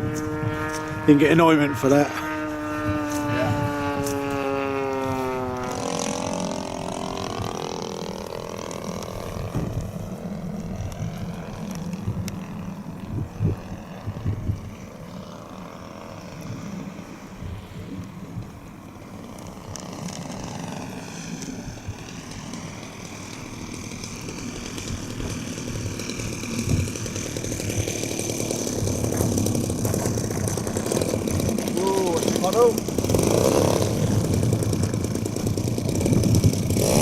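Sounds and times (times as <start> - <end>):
model plane motor whine: 0.0 - 37.0
wind gusts on microphone: 0.0 - 37.0.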